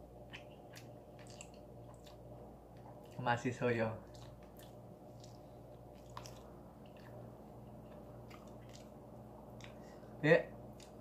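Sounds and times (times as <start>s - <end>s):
man chewing food: 0.0s - 3.3s, 4.0s - 11.0s
low steady hum: 0.0s - 11.0s.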